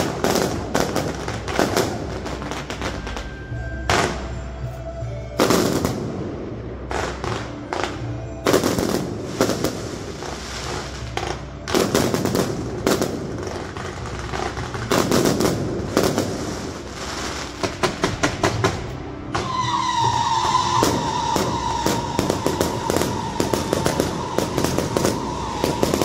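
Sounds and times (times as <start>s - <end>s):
firecracker cracks: 0.0s - 3.3s, 7.0s - 26.0s
fireworks bangs: 0.0s - 3.3s, 6.9s - 26.0s.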